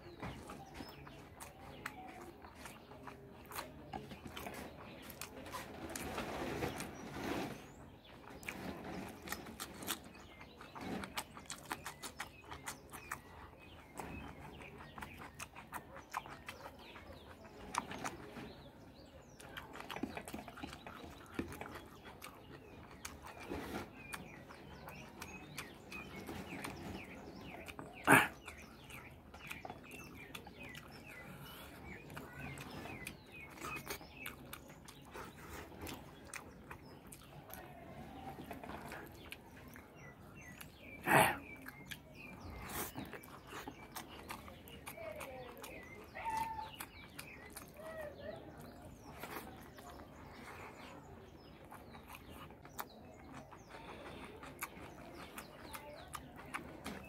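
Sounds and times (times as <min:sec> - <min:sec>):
wet chewing and lip smacks: 0:00.0 - 0:07.0, 0:07.6 - 0:57.0.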